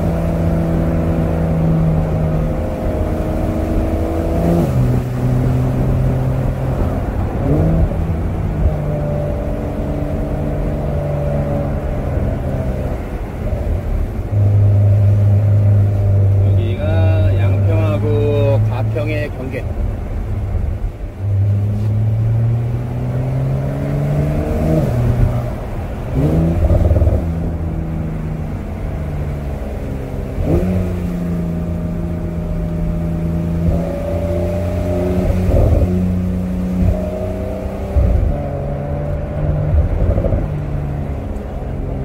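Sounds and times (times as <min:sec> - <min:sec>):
car engine running: 0:00.0 - 0:42.0.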